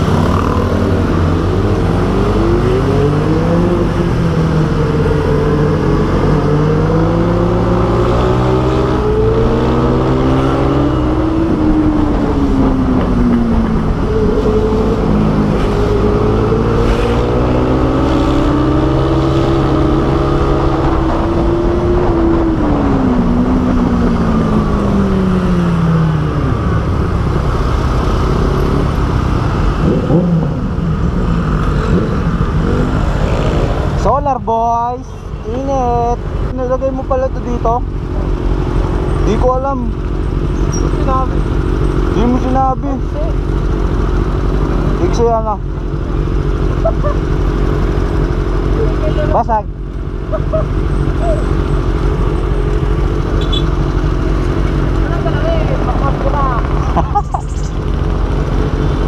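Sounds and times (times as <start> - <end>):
motorcycle engine accelerating: 0.0 - 34.7, 37.7 - 59.0.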